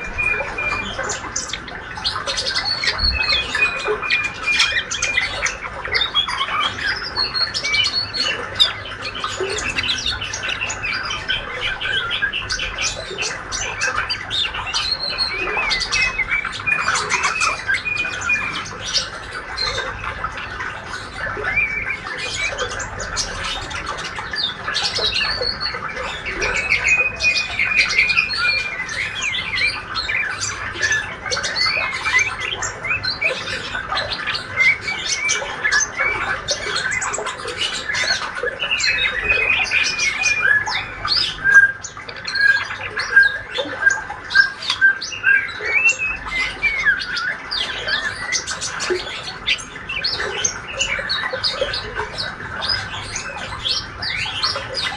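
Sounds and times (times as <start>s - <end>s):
bird twittering chirps and trills: 0.0s - 54.9s.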